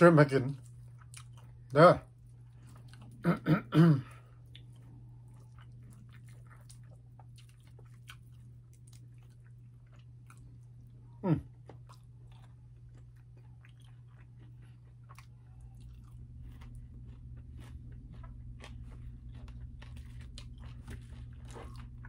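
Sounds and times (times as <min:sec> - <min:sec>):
steady low hum: 0:00.0 - 0:22.0
chewing crunchy fried chicken: 0:00.2 - 0:22.0.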